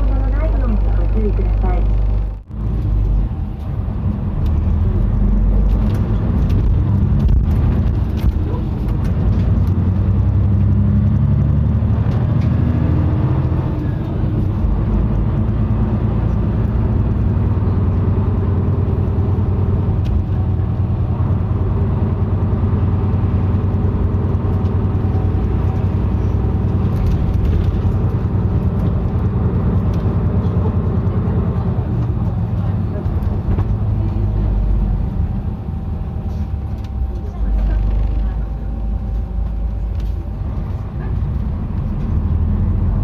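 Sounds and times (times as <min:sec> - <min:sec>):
bus engine drone: 0:00.0 - 0:43.0
road noise: 0:00.0 - 0:43.0.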